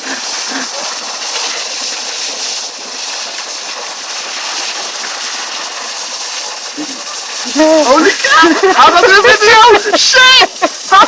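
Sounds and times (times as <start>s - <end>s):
water gushing with rushing hiss: 0.0s - 11.0s.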